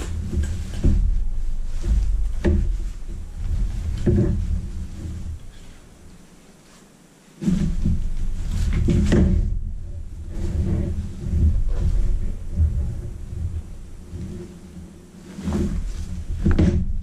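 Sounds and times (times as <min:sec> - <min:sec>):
dull bumps and scrapes: 0:00.0 - 0:06.8, 0:07.4 - 0:17.0
cloth rustling and rubbing: 0:00.0 - 0:17.0.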